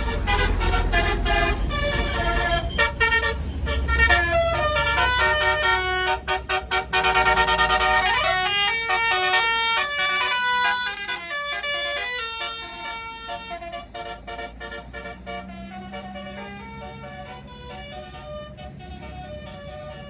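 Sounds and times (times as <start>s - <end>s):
bus engine rumble: 0.0s - 20.0s
musical bus horn tune: 0.0s - 20.0s.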